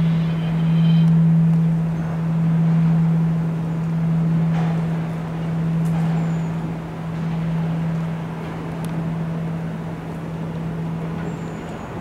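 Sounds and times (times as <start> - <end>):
large temple bell ringing: 0.0 - 12.0.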